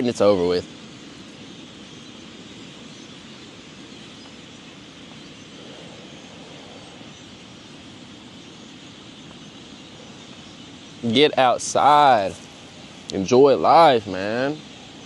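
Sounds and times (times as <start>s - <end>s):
outdoor background rush: 0.0s - 15.0s.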